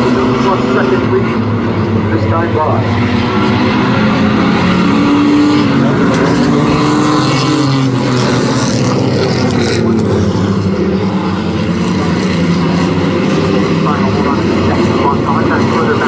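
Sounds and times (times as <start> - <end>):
race truck engines at speed: 0.0 - 16.0.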